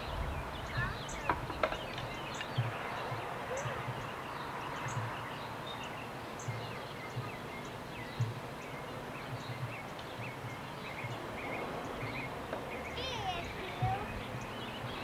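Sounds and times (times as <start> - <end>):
outdoor hiss: 0.0 - 15.0
small birds chirping: 0.0 - 15.0.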